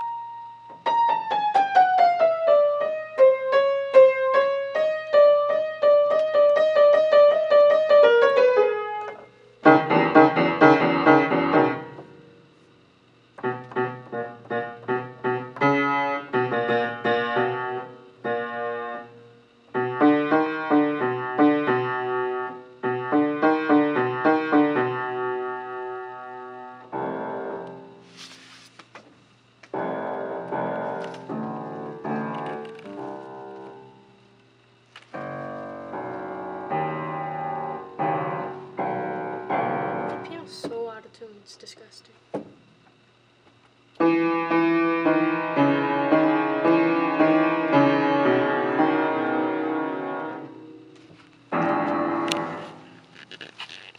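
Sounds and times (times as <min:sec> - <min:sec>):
piano-voiced keyboard chords: 0:00.0 - 0:28.0, 0:29.6 - 0:41.0, 0:43.9 - 0:53.4.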